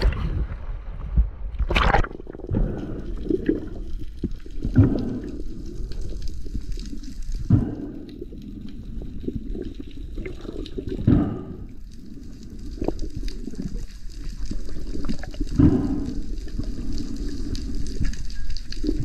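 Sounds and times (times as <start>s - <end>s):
underwater water rush: 0.0s - 19.0s.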